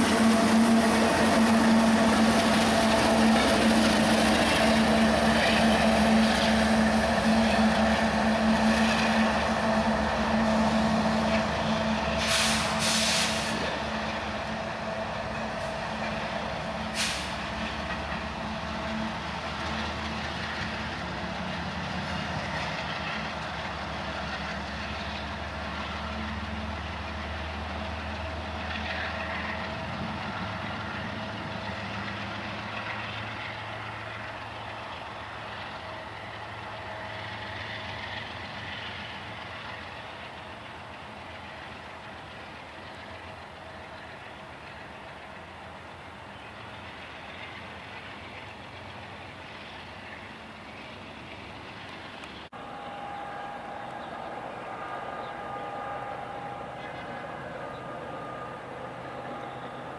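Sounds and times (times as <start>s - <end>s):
diesel train engine droning: 0.0s - 59.9s.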